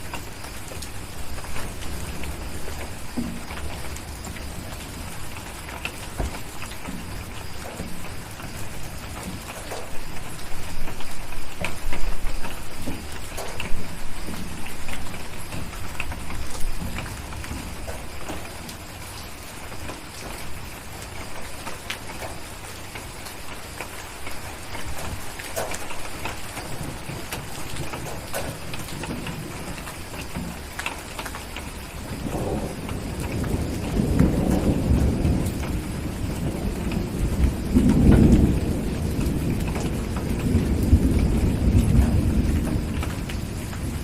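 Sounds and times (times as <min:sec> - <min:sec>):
distant thunder rumble: 0:00.0 - 0:23.1, 0:23.8 - 0:44.0
rain tapping on a window: 0:00.0 - 0:44.0.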